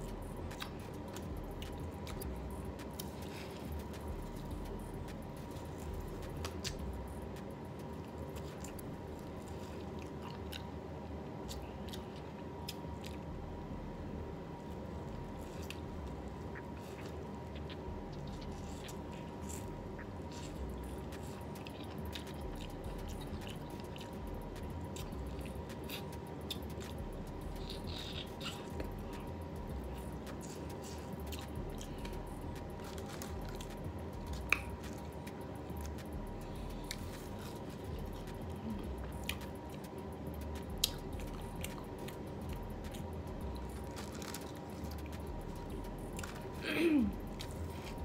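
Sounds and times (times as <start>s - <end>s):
chewing and biting: 0.0s - 13.3s, 14.6s - 48.0s
faint steady hum: 0.0s - 48.0s.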